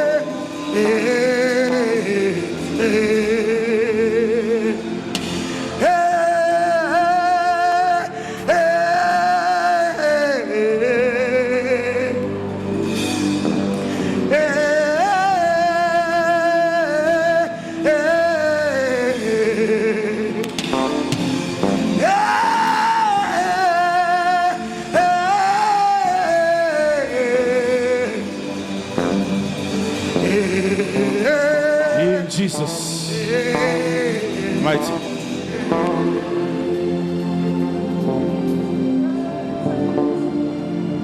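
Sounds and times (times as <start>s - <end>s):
man singing long notes: 0.0s - 12.6s, 13.5s - 41.0s
sustained instrumental backing: 0.0s - 41.0s.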